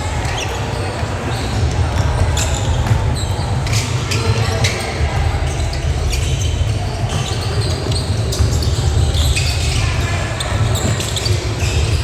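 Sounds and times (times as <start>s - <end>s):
faint background voices: 0.0s - 12.0s
shoe squeaks and clicks: 0.0s - 12.0s.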